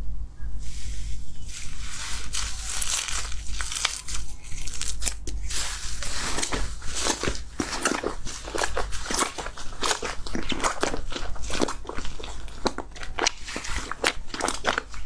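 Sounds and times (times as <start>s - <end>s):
slime crackling and squelching: 1.4s - 15.0s.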